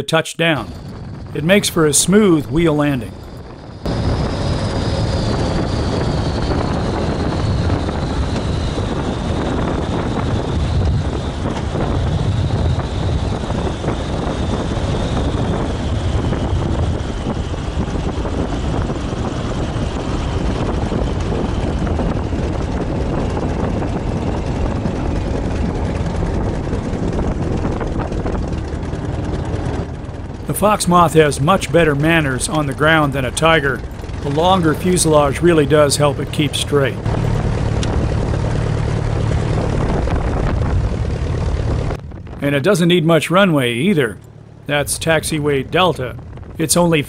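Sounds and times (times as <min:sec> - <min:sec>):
wind rush: 0:00.0 - 0:47.0
high whine falling in pitch: 0:00.4 - 0:18.3, 0:24.0 - 0:47.0
aircraft engine throttled back: 0:00.4 - 0:47.0
wheel rumble: 0:00.5 - 0:47.0.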